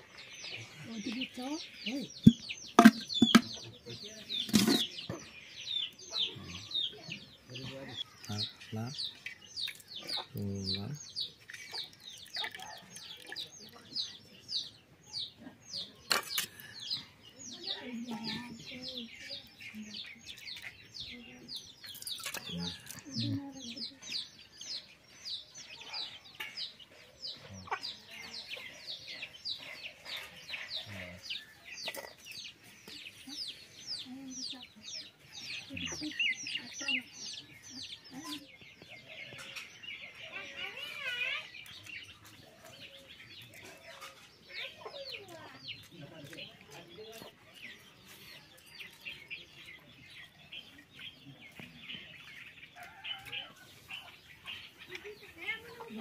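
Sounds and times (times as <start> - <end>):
chickens clucking: 0.0 - 14.1, 19.4 - 40.9, 41.6 - 56.0
small birds chirping: 0.0 - 56.0.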